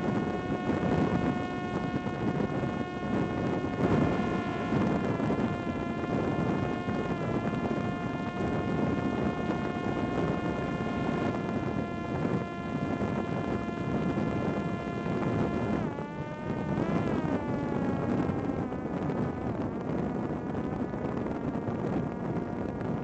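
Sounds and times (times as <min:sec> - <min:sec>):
drone motor and propeller whine: 0:00.0 - 0:23.0
wind rushing over microphone: 0:00.0 - 0:23.0.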